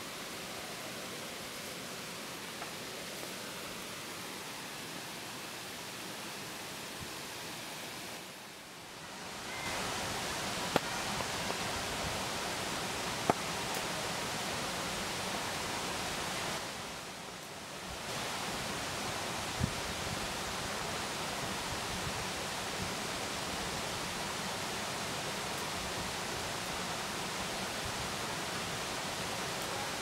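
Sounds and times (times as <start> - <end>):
waterfall rushing: 0.0 - 17.1, 18.0 - 30.0.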